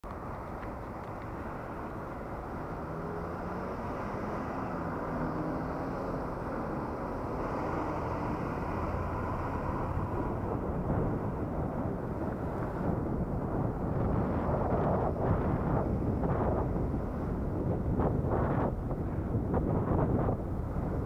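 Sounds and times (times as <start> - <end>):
road noise: 0.0 - 21.0
wind rush: 0.1 - 21.0.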